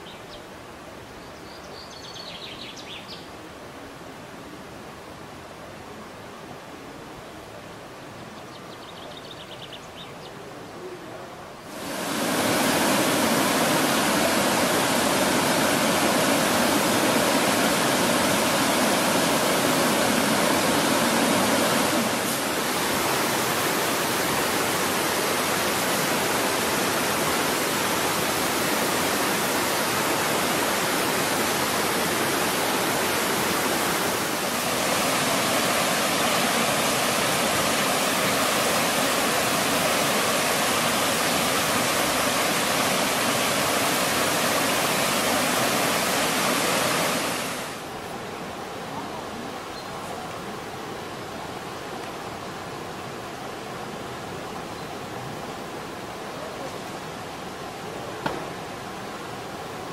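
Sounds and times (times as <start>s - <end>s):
stream rushing over rocks: 11.4s - 59.9s.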